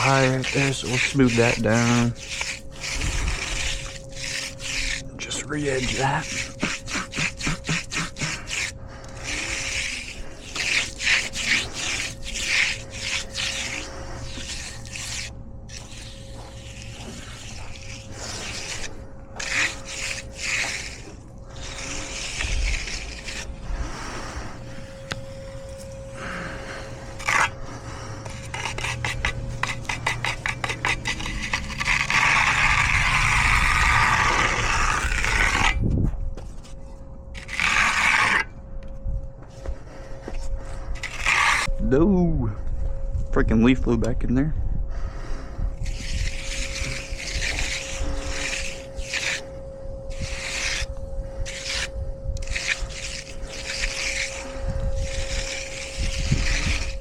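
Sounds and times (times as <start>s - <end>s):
concrete edger scraping concrete: 0.0s - 24.9s, 26.2s - 27.6s, 28.2s - 35.8s, 37.4s - 38.5s, 41.0s - 41.7s, 45.8s - 49.5s, 50.1s - 57.0s.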